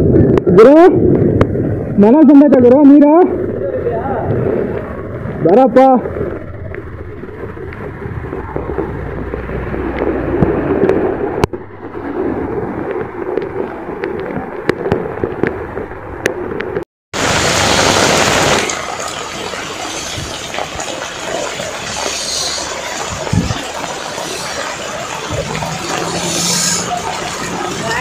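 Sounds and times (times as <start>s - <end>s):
heavy rain pouring: 0.0s - 28.0s
water rushing: 0.0s - 28.0s.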